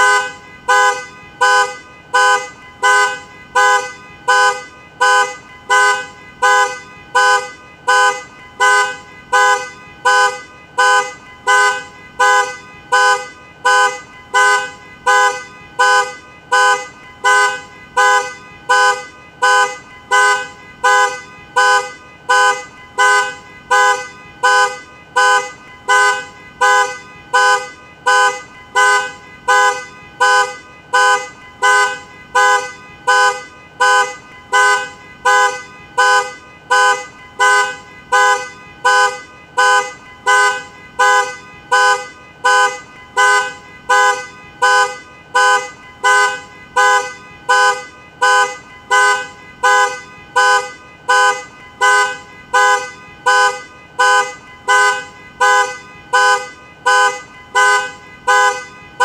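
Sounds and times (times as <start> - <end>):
car alarm horn honking: 0.0 - 59.0.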